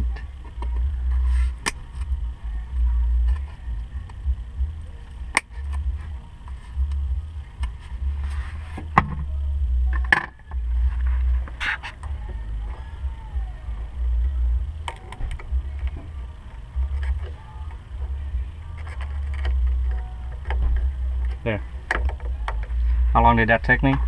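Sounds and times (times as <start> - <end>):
low uneven rumble: 0.0 - 24.0.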